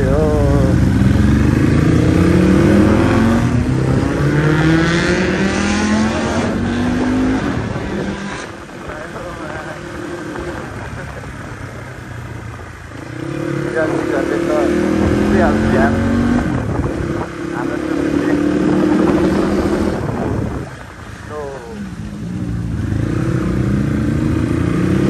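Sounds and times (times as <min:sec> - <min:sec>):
motorcycle engine accelerating: 0:00.0 - 0:25.0
road and wind noise: 0:00.0 - 0:25.0.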